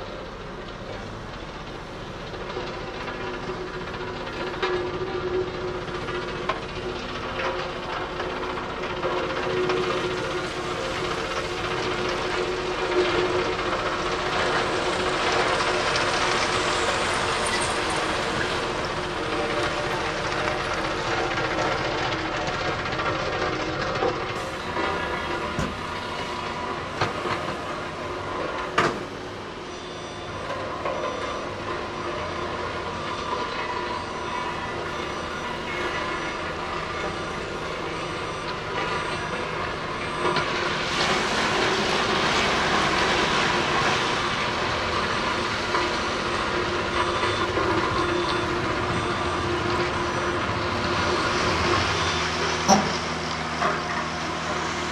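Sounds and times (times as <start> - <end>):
truck diesel engine running: 0.0 - 30.3, 31.4 - 54.9.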